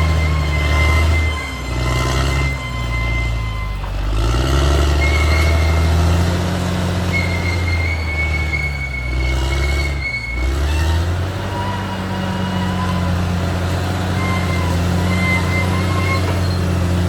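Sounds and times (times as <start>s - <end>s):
metallic squeals of steel tracks: 0.0s - 6.2s, 7.0s - 17.0s
bulldozer diesel engine running: 0.0s - 17.0s.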